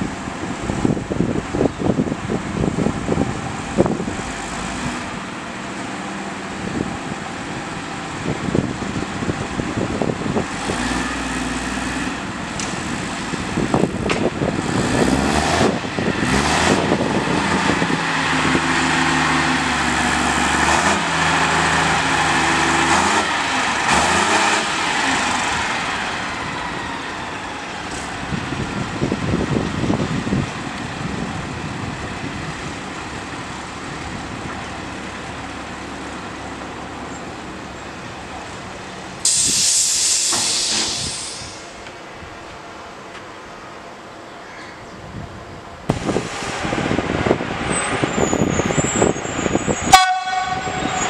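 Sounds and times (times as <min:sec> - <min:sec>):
diesel engine running: 0:00.0 - 0:44.3, 0:45.1 - 0:51.0.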